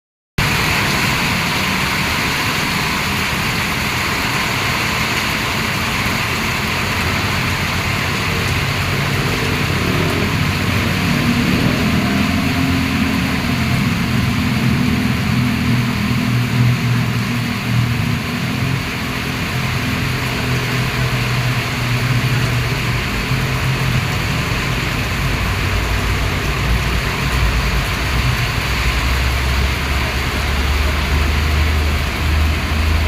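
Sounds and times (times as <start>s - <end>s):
heavy rain pouring: 0.4s - 33.0s.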